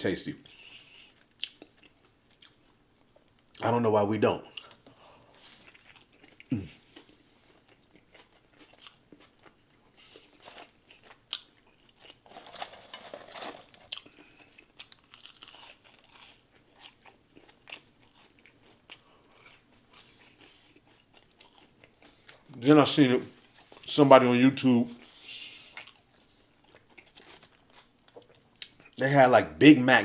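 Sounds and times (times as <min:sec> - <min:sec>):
close chewing and crunching: 0:00.5 - 0:03.6, 0:04.5 - 0:22.6, 0:25.0 - 0:29.0.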